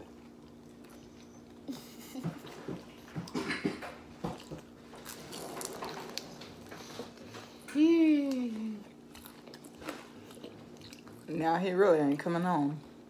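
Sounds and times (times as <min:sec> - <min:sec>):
chewing and crunching food: 0:00.0 - 0:13.0
faint steady hum: 0:00.0 - 0:13.0.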